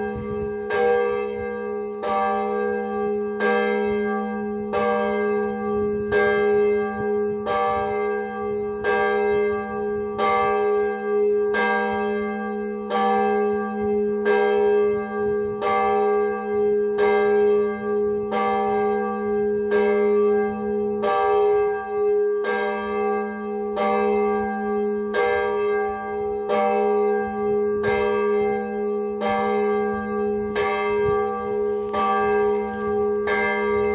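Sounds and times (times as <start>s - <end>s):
church bell tolling: 0.0s - 33.9s.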